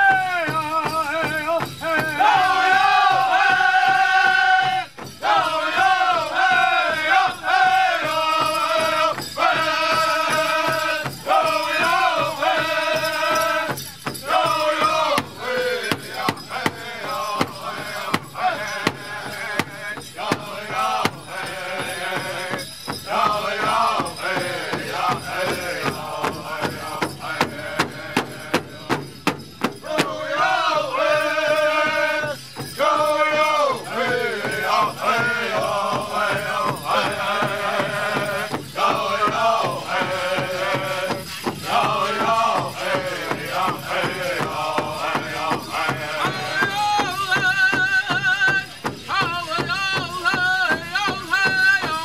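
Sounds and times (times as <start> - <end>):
group singing in high voices: 0.0 - 29.1, 29.7 - 52.0
large drum beating: 0.0 - 52.0.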